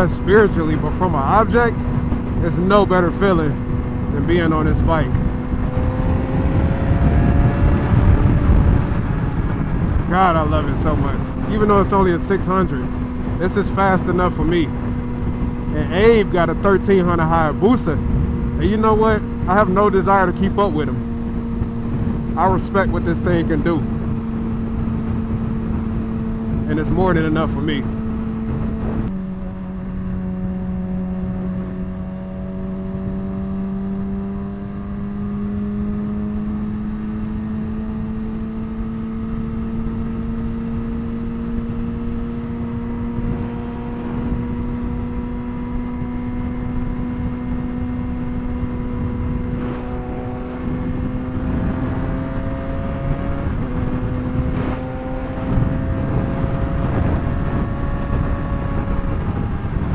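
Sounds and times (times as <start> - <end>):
motorcycle engine at speed: 0.0 - 59.9
wind noise: 0.0 - 59.9.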